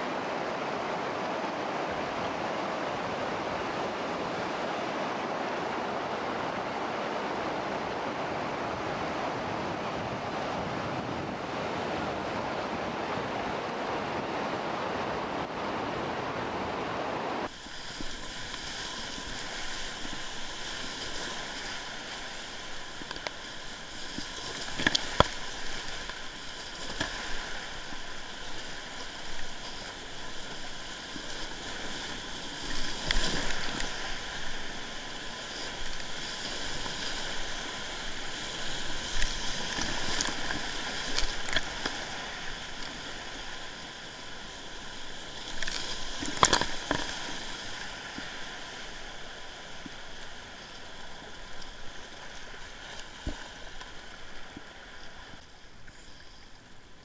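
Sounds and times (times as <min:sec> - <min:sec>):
whitewater rapids rushing: 0:00.0 - 0:55.3
water splashing against boat: 0:00.0 - 0:57.0.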